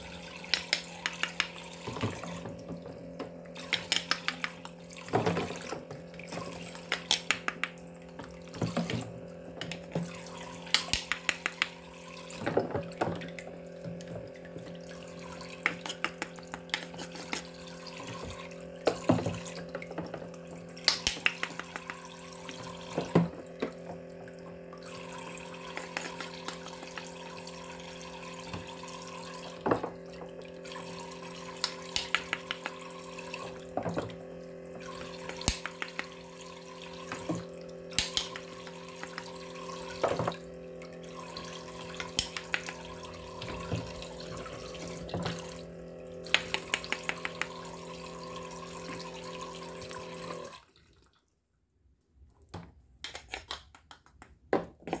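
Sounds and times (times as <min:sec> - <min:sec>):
toy pump humming: 0:00.0 - 0:50.7
water splashing into basin: 0:00.0 - 0:51.2.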